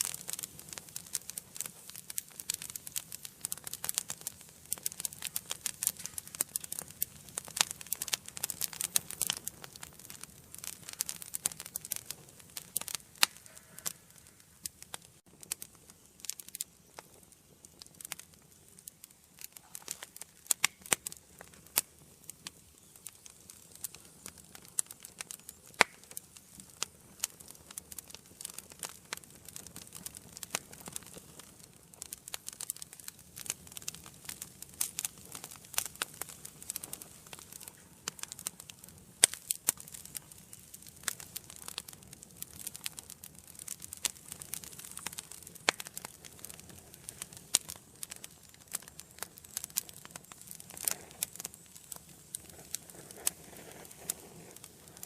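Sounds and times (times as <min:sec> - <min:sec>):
faint hiss: 0:00.0 - 0:55.0
wood fire crackling and popping: 0:00.0 - 0:55.0.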